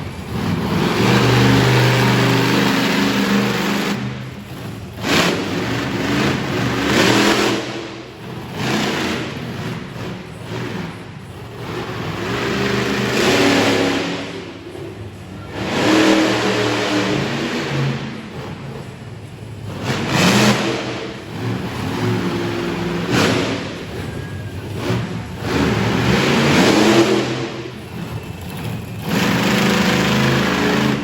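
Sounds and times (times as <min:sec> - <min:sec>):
monster truck engine revving: 0:00.0 - 0:31.0.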